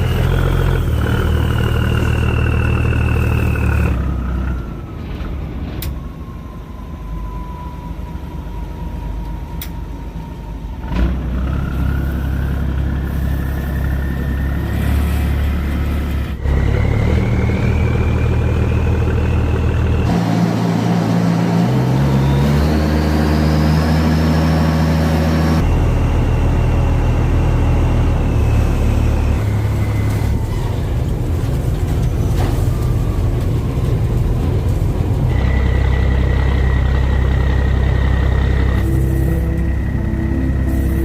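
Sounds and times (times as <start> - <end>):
high engine whine: 0.0 - 41.0.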